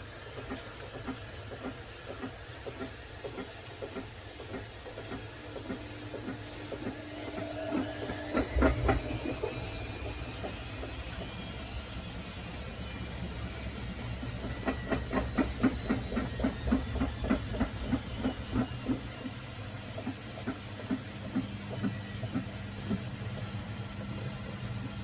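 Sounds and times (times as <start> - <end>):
washing machine motor whine: 0.0 - 25.0.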